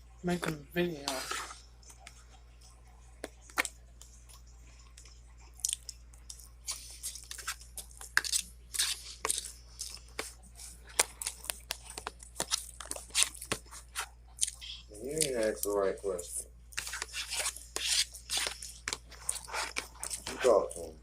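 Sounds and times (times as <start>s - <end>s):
person chewing crunchy food: 1.1s - 15.9s, 16.6s - 21.0s.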